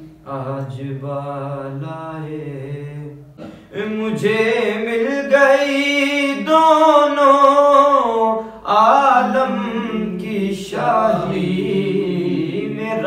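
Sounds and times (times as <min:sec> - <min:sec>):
man singing unaccompanied: 0:00.1 - 0:13.0.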